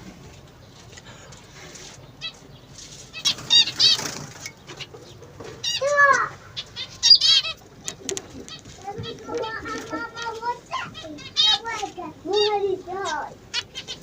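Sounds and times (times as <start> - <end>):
birds chirping rapidly: 0.3 - 14.0.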